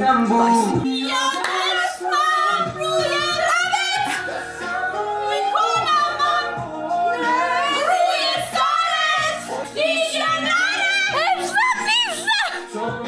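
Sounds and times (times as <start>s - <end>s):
women singing: 0.0s - 13.0s.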